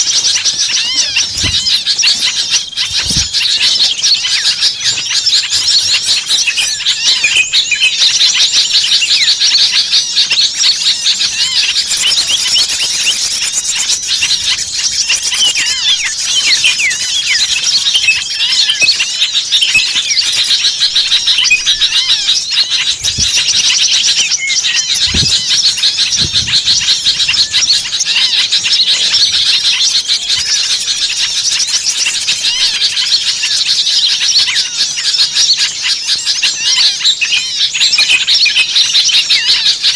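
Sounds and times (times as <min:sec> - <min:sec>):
small songbirds chirping and trilling: 0:00.0 - 0:39.9.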